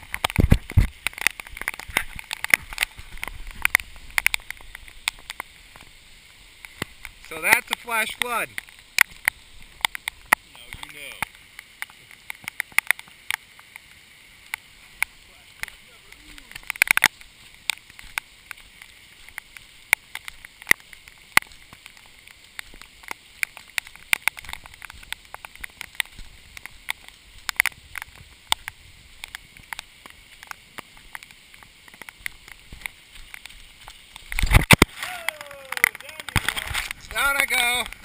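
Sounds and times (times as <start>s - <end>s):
hiss of rainfall: 0.0s - 38.0s
raindrops tapping on camera: 0.0s - 38.0s.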